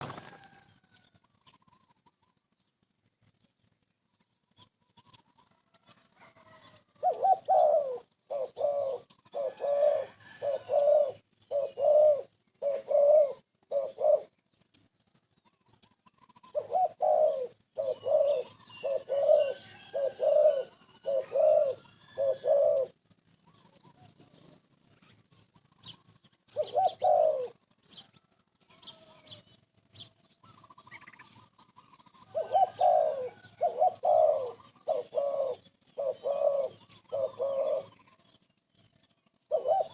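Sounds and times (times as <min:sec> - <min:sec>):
dove cooing: 0:00.0 - 0:02.5, 0:04.5 - 0:14.6, 0:15.2 - 0:39.9.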